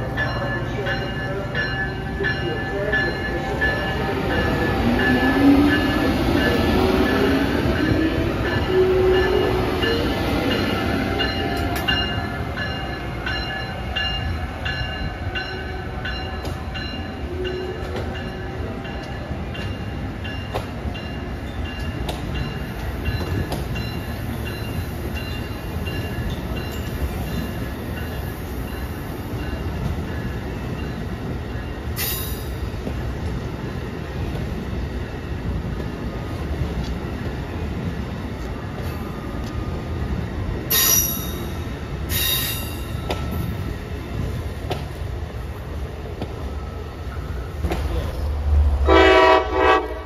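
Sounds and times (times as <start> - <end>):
electric locomotive whine: 0.0 - 50.0
train cars rumbling past: 0.0 - 50.0.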